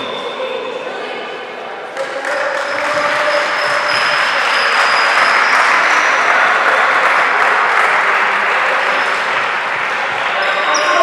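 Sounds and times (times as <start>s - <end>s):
crowd applauding: 2.0s - 11.0s.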